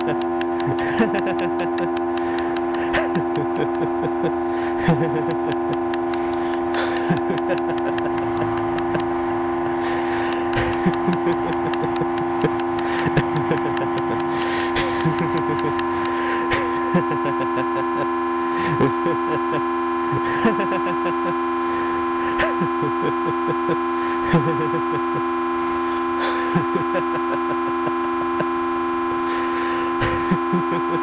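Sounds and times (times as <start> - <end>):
drone of held tones: 0.0 - 31.0.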